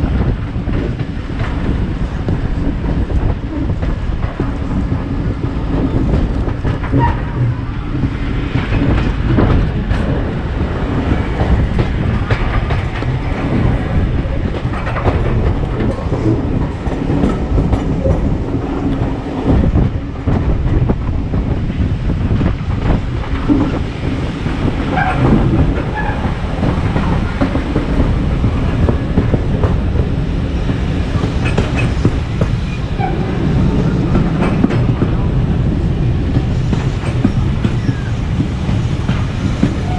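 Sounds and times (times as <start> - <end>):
train low rumble: 0.0 - 39.9
wheels clicking over rail joints: 0.1 - 39.9.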